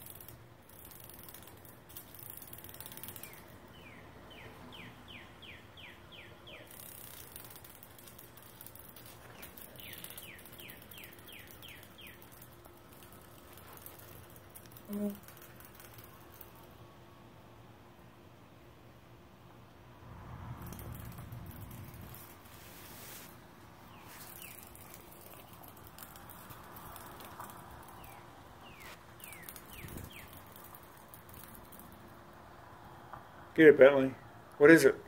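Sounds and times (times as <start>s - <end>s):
faint outdoor hiss: 0.0s - 35.0s.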